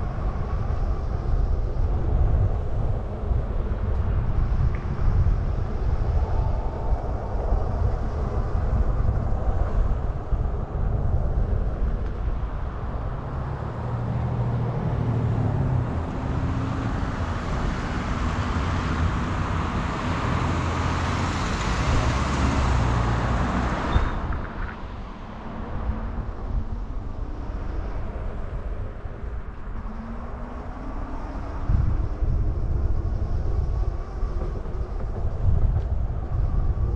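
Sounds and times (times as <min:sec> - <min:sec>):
road and traffic noise: 0:00.0 - 0:36.9
wind buffeting microphone: 0:00.0 - 0:36.9.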